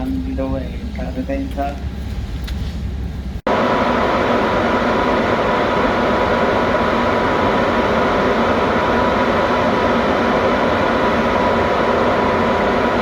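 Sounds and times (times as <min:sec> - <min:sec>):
thin constant whine: 0:00.0 - 0:13.0.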